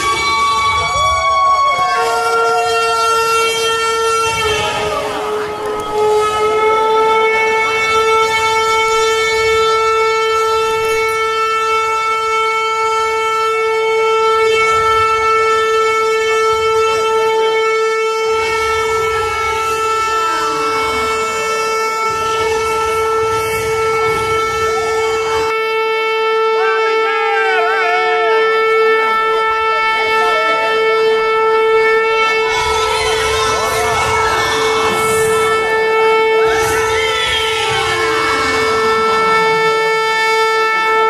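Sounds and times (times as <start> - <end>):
steady horn-like tone: 0.0 - 41.0.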